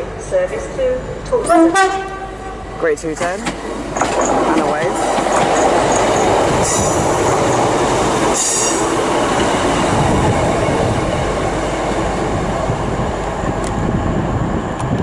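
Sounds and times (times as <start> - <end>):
train engine and wheels on rails: 0.0 - 15.0.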